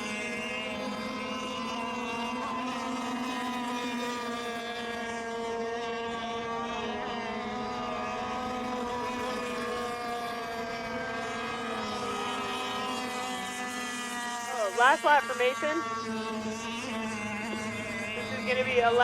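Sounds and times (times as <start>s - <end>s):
model boat motors droning: 0.0s - 19.0s.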